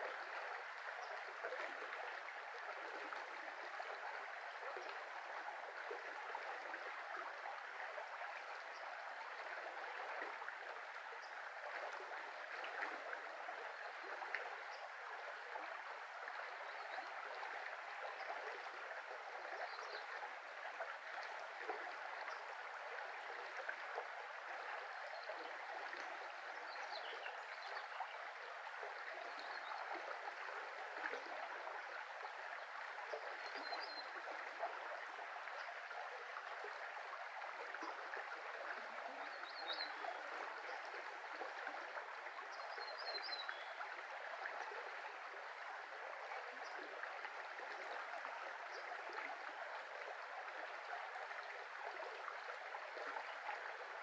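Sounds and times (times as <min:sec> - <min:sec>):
river water rushing and babbling: 0:00.0 - 0:54.0.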